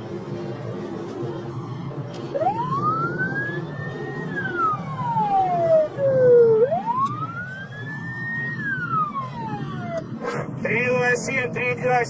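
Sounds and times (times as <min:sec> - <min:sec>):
road rumble: 0:00.0 - 0:12.0
police siren wailing: 0:00.1 - 0:10.7.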